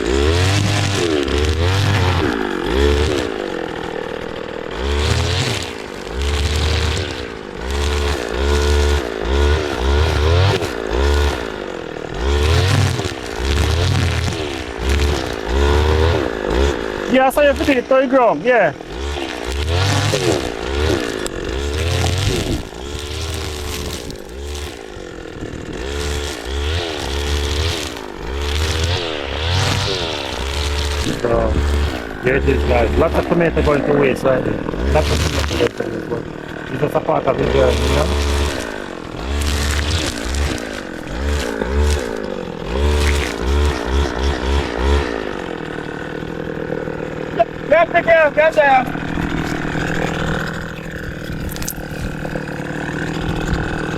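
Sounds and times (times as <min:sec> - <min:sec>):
string trimmer revving: 0:00.0 - 0:53.9.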